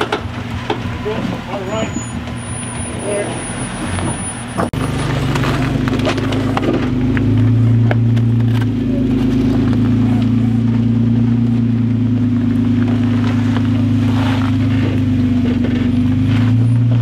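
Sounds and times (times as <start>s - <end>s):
engine running at low revs: 0.0s - 17.0s
rock crunching under tyres: 0.0s - 17.0s.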